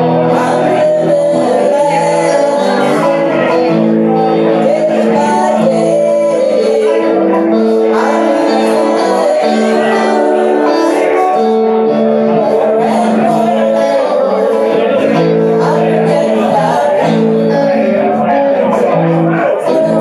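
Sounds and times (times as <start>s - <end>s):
electric guitar chords: 0.0s - 20.0s
people singing: 0.0s - 20.0s.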